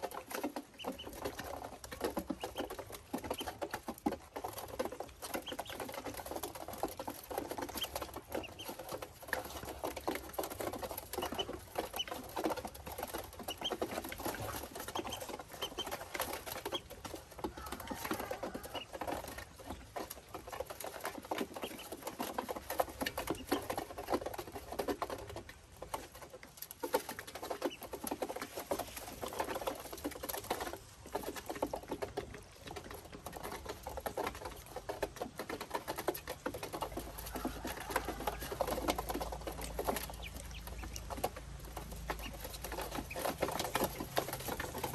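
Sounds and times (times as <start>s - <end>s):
ducklings pecking and rustling: 0.0s - 44.9s.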